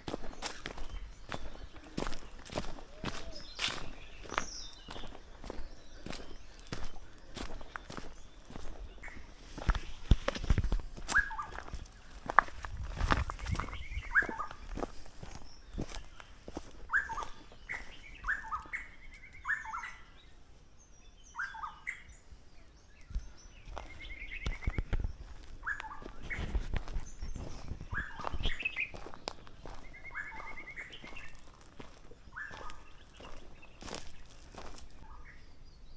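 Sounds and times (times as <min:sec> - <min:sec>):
faint footsteps on trail: 0:00.0 - 0:35.9
forest bird calling: 0:00.0 - 0:35.9.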